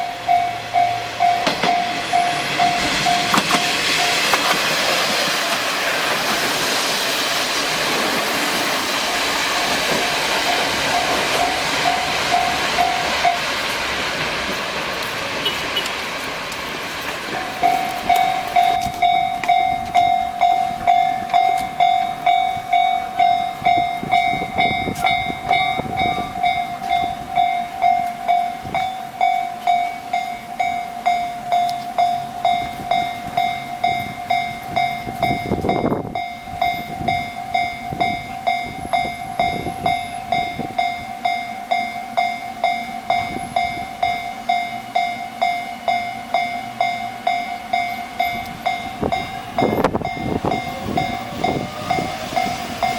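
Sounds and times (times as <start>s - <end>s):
level-crossing bell ringing: 0.0s - 4.6s, 8.7s - 14.0s, 17.3s - 52.9s
passing trains: 0.0s - 52.9s.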